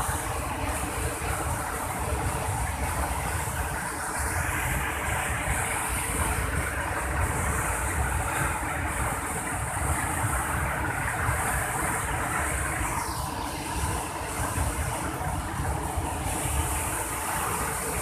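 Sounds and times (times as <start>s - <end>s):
river torrent rushing over weir: 0.0s - 18.0s.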